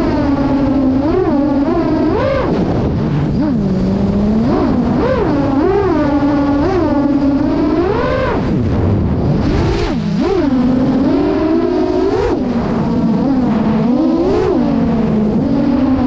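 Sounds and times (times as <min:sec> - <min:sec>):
drone motor and prop whine: 0:00.0 - 0:16.0.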